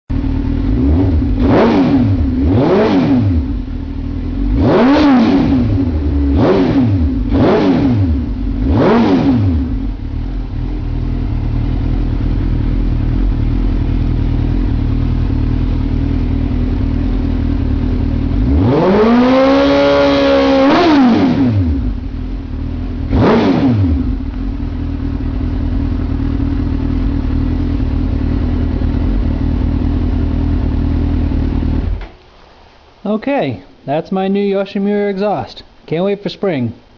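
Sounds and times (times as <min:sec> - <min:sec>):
motorcycle engine revving and idling: 0:00.1 - 0:32.2.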